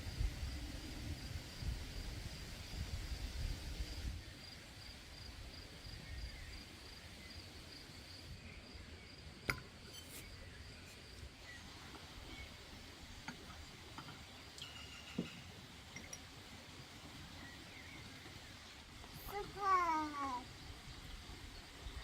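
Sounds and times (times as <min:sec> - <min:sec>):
insects chirping: 0:04.2 - 0:22.0.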